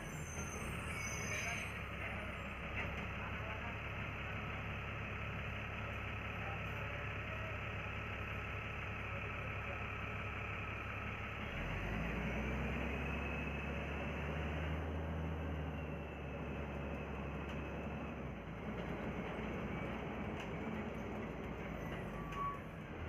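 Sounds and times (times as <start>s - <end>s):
bus engine rumbling: 0.0s - 23.0s
road noise: 0.0s - 23.0s.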